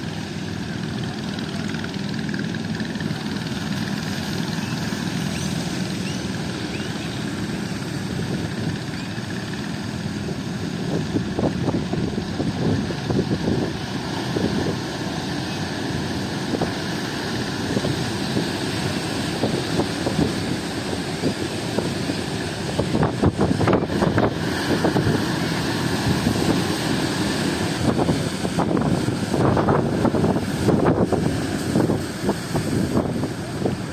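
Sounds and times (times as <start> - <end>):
sea surf: 0.0 - 33.9
wind buffeting microphone: 1.2 - 33.9.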